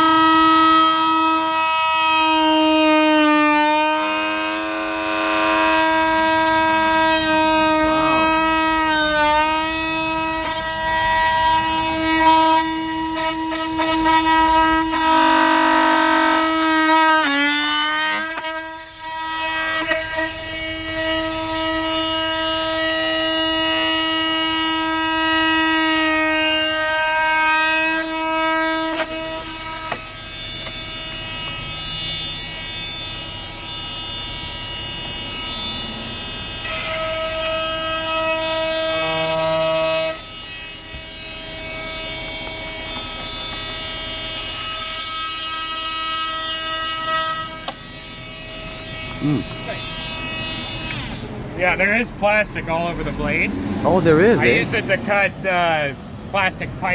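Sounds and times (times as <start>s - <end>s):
oscillating multitool cutting wood: 0.0s - 56.2s.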